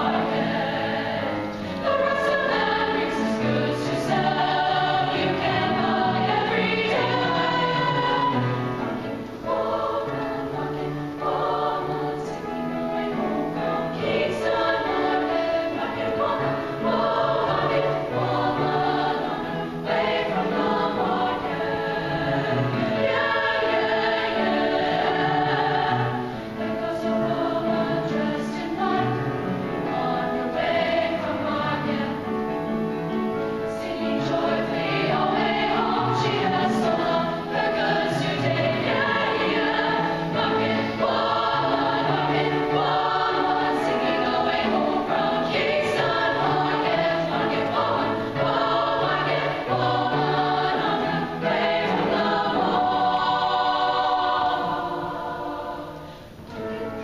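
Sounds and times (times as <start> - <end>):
girls' choir singing in parts: 0.0 - 57.0
upright piano: 0.0 - 57.0.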